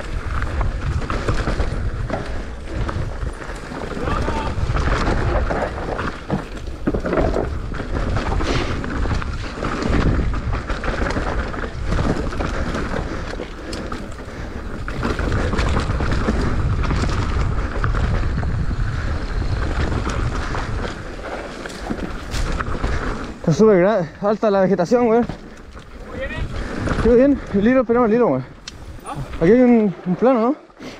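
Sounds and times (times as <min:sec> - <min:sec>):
bike knocks and rattles: 0:00.0 - 0:23.6, 0:24.8 - 0:27.8
wind buffeting microphone: 0:00.0 - 0:29.9.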